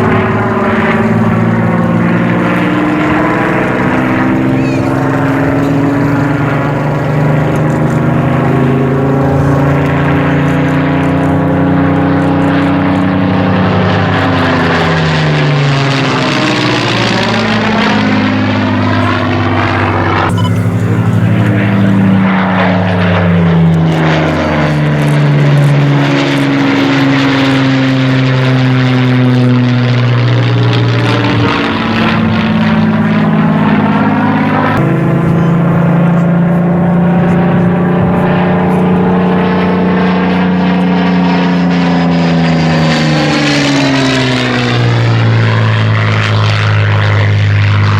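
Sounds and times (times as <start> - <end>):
propeller aircraft flying past: 0.0 - 47.9.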